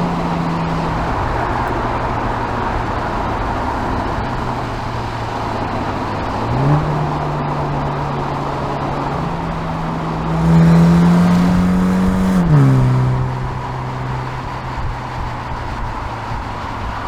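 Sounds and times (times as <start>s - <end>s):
car engine and exhaust revving: 0.0s - 17.0s.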